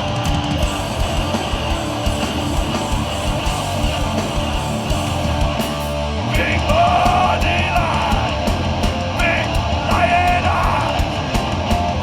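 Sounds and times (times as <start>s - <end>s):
punk band playing: 0.0s - 12.0s.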